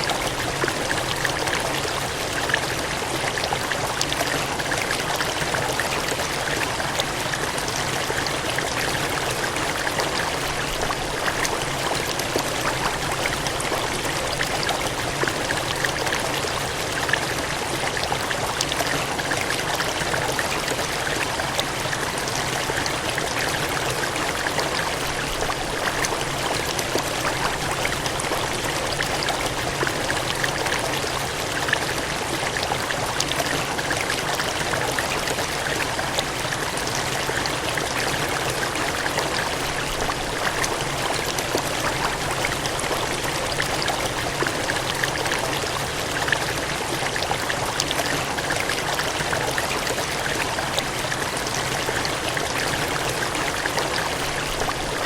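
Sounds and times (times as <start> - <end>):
water gushing: 0.0 - 55.0.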